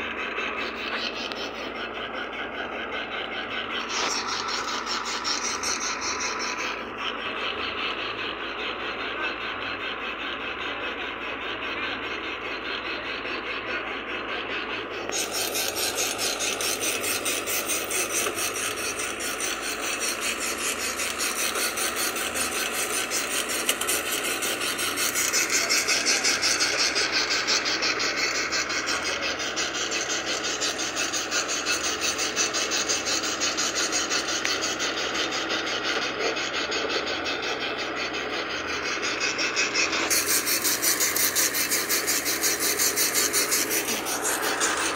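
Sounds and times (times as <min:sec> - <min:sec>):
truck engine labouring: 0:00.0 - 0:44.9.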